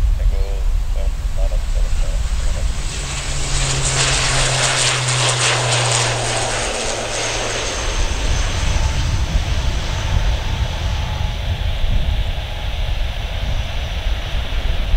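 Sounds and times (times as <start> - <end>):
low propeller drone: 0.0 - 14.9.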